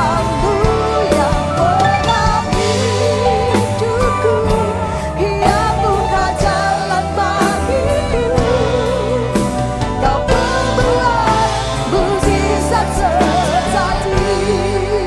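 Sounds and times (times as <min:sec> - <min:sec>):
person singing: 0:00.0 - 0:15.0
steady drum beat: 0:00.0 - 0:15.0
worship band playing: 0:00.0 - 0:15.0.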